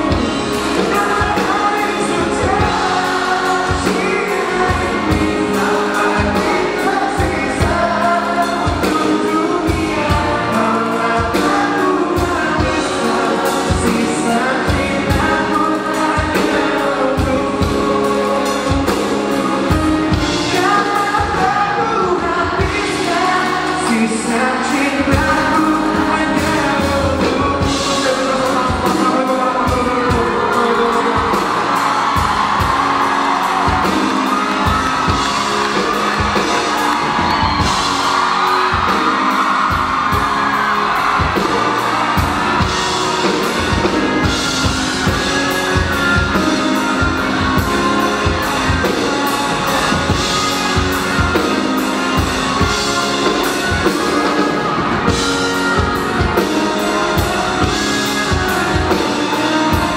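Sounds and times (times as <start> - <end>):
steady drum beat: 0.0 - 21.6, 22.4 - 59.9
person singing: 0.0 - 59.9.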